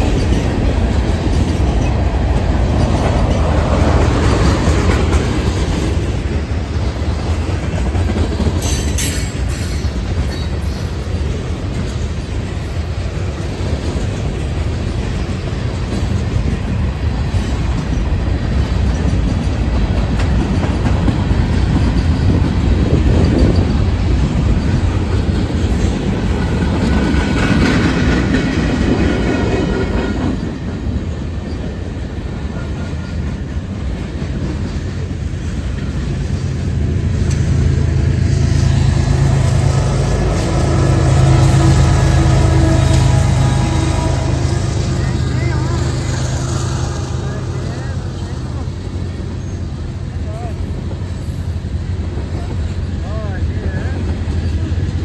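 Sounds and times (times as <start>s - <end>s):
freight train rumbling past: 0.0s - 55.0s
wheels clattering over rail joints: 0.0s - 55.0s.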